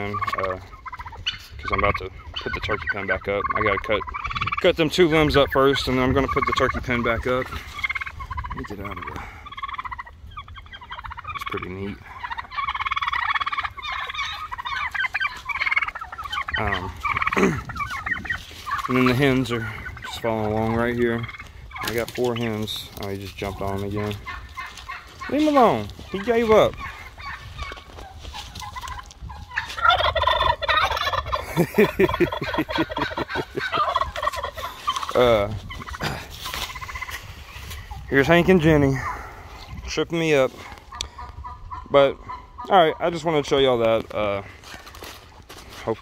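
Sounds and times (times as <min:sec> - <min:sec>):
turkeys gobbling: 0:00.0 - 0:46.0.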